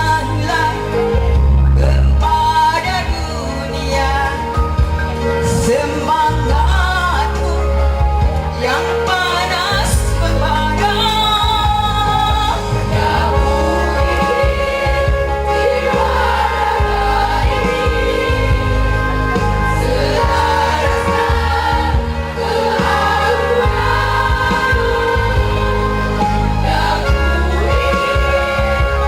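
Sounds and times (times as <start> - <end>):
choir singing in harmony: 0.0 - 29.0
low instrumental accompaniment: 0.0 - 29.0.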